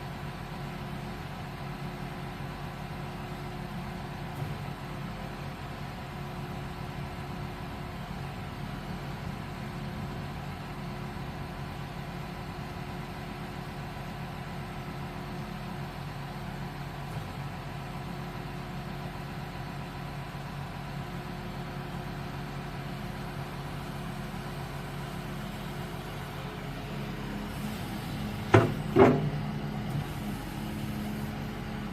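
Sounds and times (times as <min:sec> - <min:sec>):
excavator diesel engine: 0:00.0 - 0:31.9.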